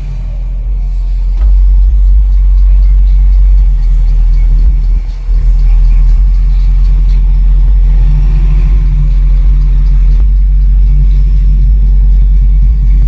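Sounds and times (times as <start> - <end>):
heavy subwoofer bass: 0.0 - 13.0.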